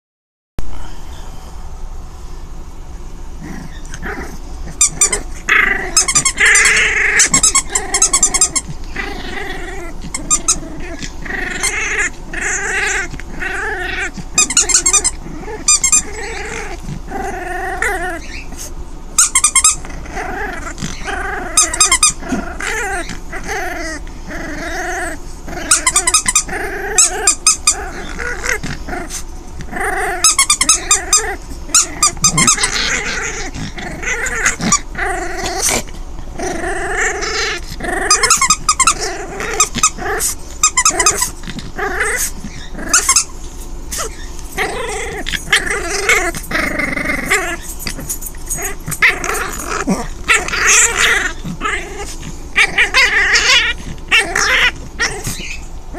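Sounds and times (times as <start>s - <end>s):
puppy growling: 3.4s - 55.9s
high-pitched squeaks: 3.6s - 13.2s, 14.2s - 17.2s, 17.8s - 55.7s.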